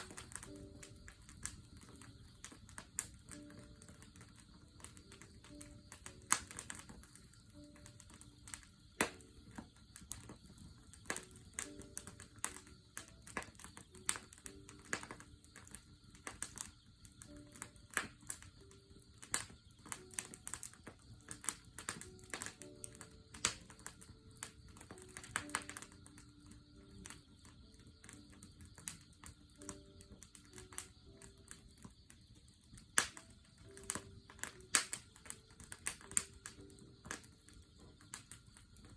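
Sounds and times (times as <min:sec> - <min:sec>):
campfire crackling: 0:00.0 - 0:38.9
insects trilling: 0:00.0 - 0:38.9.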